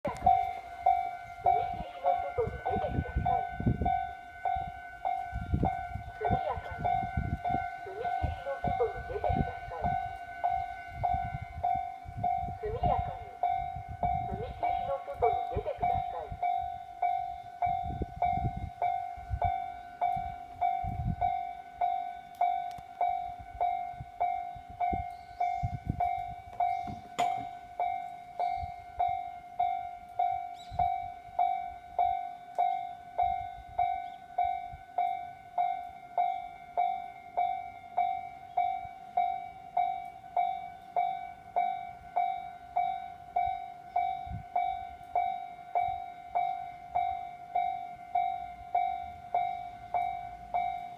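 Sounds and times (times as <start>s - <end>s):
level crossing warning bell: 0.0s - 50.9s.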